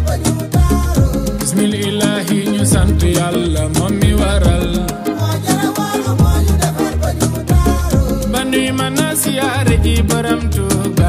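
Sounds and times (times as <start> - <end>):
music with deep bass line: 0.0 - 11.0.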